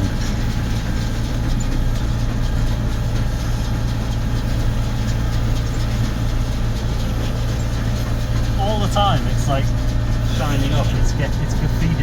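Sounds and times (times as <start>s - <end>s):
tractor engine driving baler: 0.0s - 12.0s.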